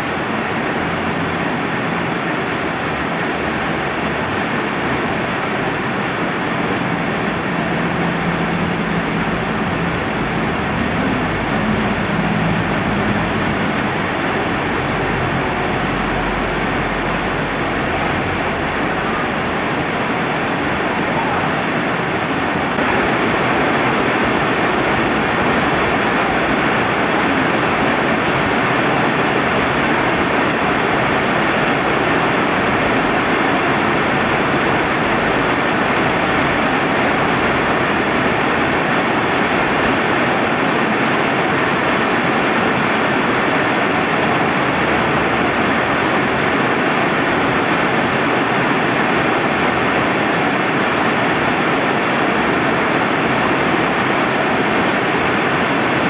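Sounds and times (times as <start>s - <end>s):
rain falling: 0.0s - 56.0s
river flowing: 0.0s - 56.0s.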